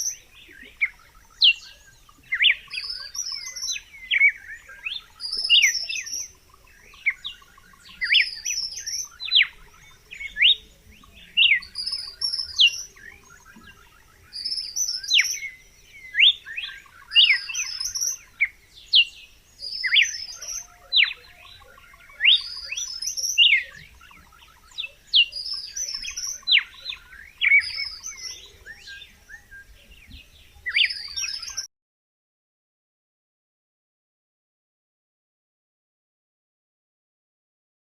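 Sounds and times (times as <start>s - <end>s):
bird singing whistled notes: 0.0s - 31.7s.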